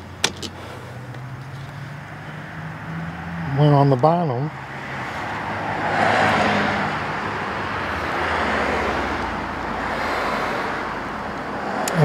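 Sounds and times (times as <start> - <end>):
road traffic hiss: 0.0 - 12.0.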